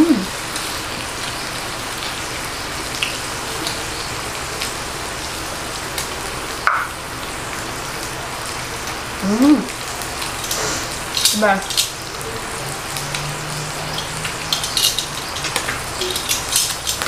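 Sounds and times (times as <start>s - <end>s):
pork sizzling on grill plate: 0.0s - 17.0s.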